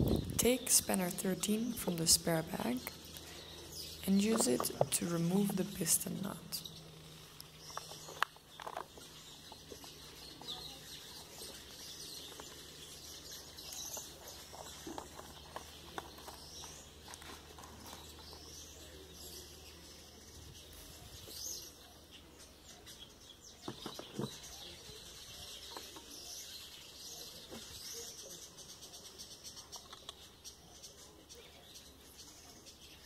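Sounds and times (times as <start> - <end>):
birds chirping: 0.0 - 33.0
faint outdoor hush: 0.0 - 33.0.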